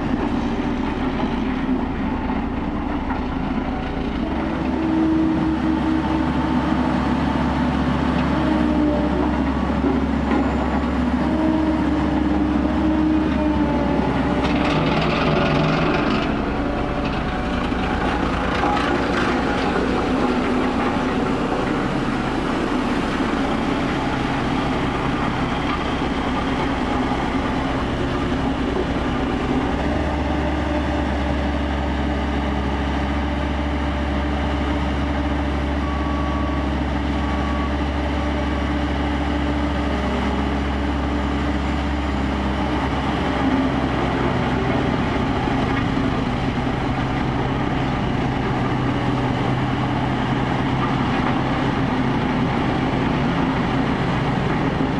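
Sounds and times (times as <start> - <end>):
road roller engine running: 0.0 - 54.9.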